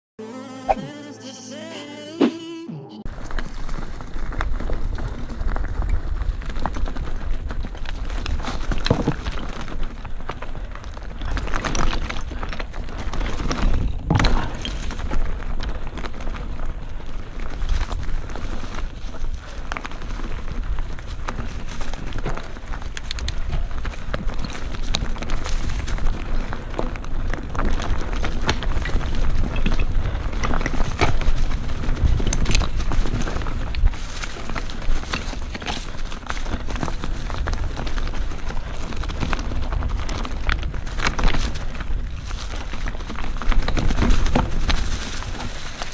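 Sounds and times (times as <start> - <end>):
stones crunching under tyres: 3.1 - 45.9.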